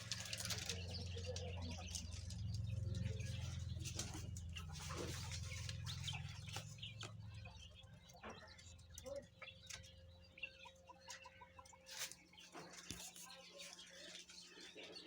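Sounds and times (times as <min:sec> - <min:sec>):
quail chirping: 0:00.0 - 0:15.0.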